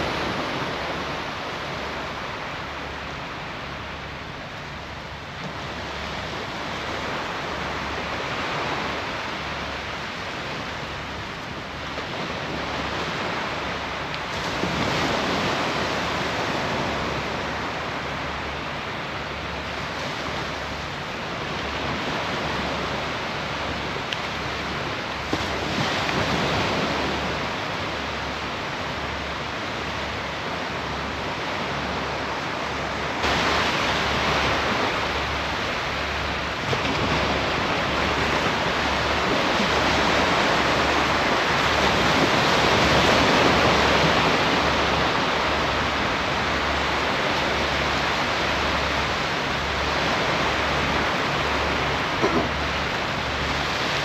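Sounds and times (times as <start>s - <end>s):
waves washing onto beach: 0.0s - 54.0s.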